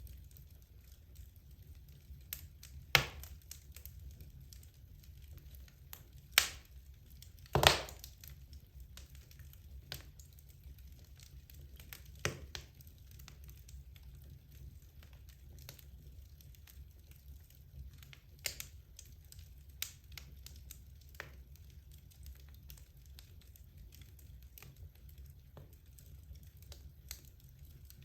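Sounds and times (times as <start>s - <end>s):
logs crackling and popping: 0.0s - 28.0s
low fire rumble: 0.0s - 28.0s.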